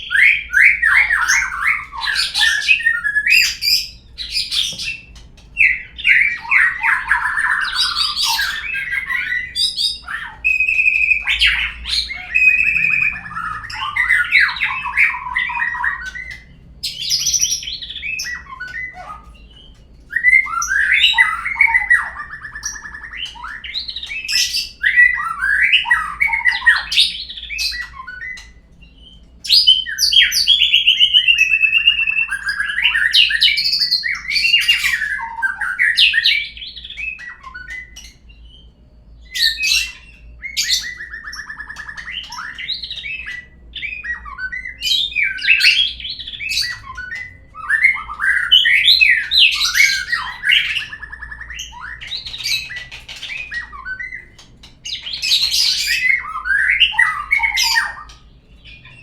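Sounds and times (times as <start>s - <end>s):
bird whistled song: 0.0s - 59.0s.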